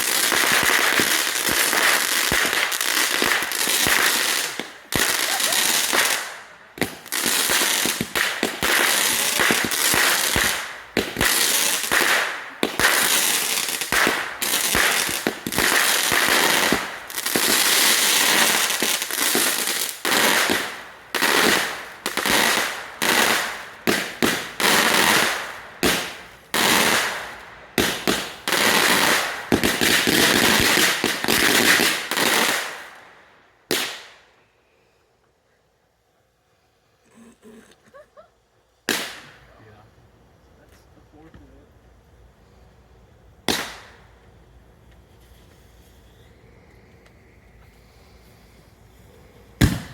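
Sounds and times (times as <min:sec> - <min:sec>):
fireworks crackling bangs: 0:00.0 - 0:33.0, 0:38.8 - 0:39.7, 0:43.4 - 0:49.9.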